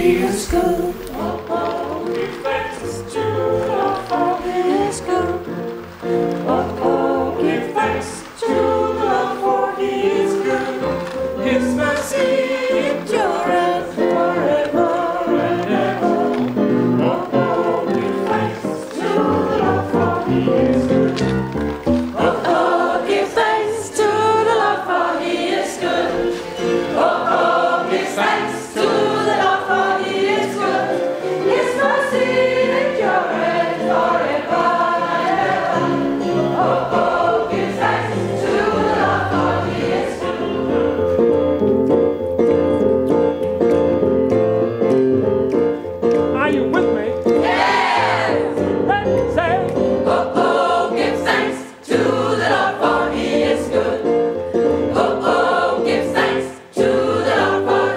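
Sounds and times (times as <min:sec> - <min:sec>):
gospel choir singing: 0:00.0 - 0:46.1, 0:47.2 - 0:57.9.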